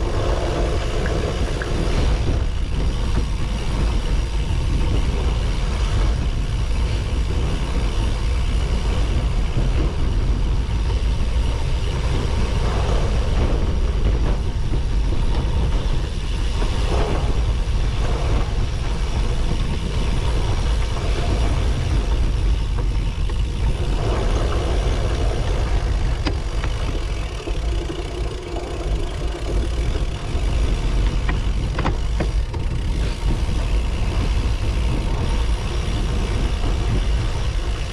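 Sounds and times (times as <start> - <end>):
bike tyres rattling over dirt: 0.0 - 37.9
wind buffeting microphone: 0.0 - 37.9.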